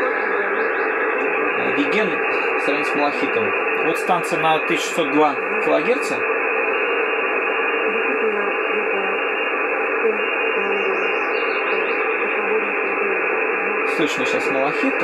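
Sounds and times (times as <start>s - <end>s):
faint radio station audio: 0.0s - 15.0s
radio static hiss: 0.0s - 15.0s.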